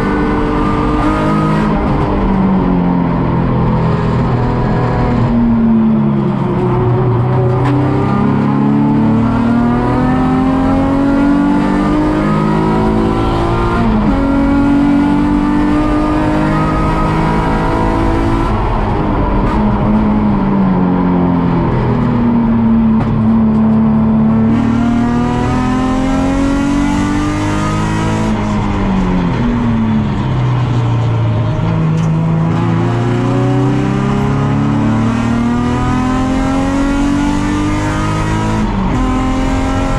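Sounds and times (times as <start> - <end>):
car engine revving at racing pace: 0.0 - 39.9.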